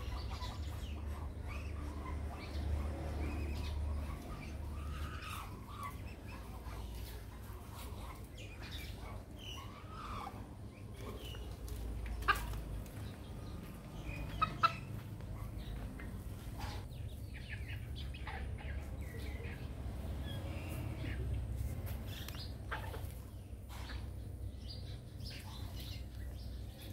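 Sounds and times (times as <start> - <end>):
junglefowl clucking: 0.0 - 19.7, 20.3 - 24.2.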